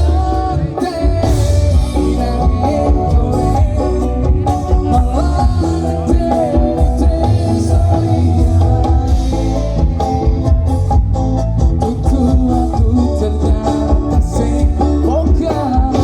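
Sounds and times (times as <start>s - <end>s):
live band music with heavy bass: 0.0s - 16.0s.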